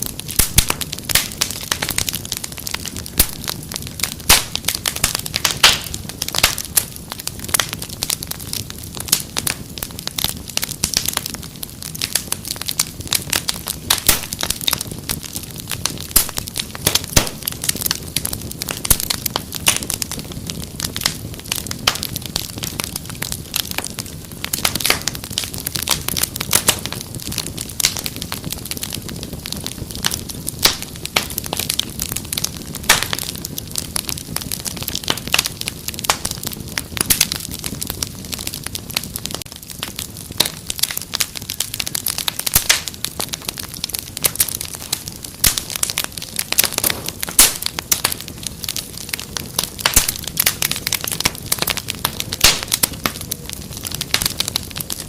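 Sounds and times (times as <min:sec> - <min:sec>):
fireplace fire crackling: 0:00.0 - 0:55.0.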